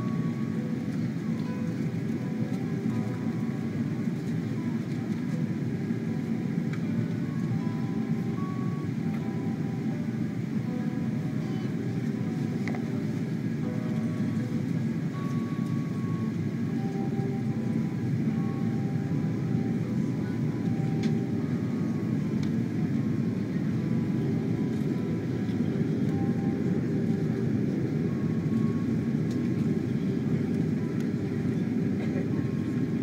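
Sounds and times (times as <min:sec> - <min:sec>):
airliner cabin engine rush: 0:00.0 - 0:33.0.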